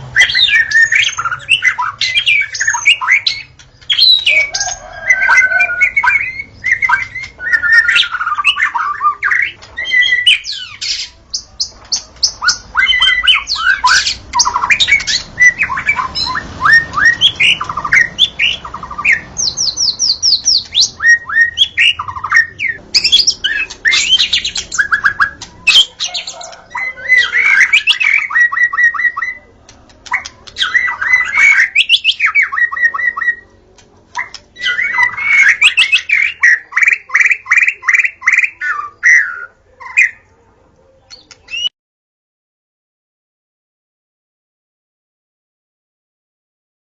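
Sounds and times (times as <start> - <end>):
songbird whistling and trilling: 0.2 - 40.2.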